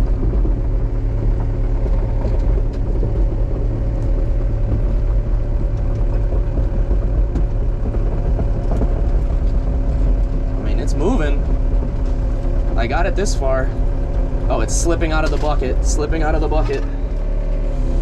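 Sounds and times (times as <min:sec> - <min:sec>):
excavator engine droning: 0:00.0 - 0:18.0.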